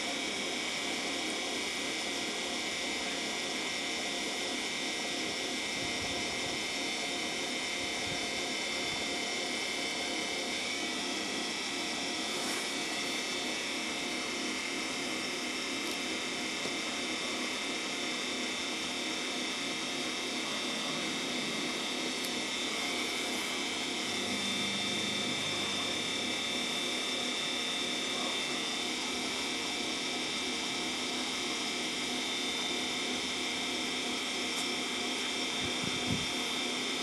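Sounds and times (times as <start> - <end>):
rotating beacons whirring: 0.0 - 37.0.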